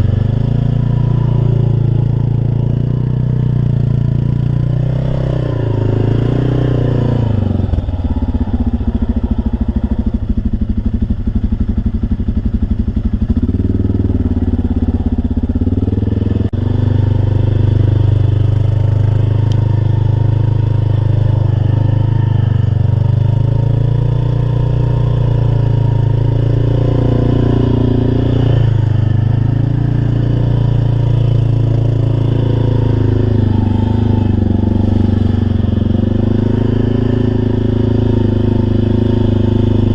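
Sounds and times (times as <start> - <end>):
truck engine revving: 0.0 - 10.1, 13.6 - 39.9.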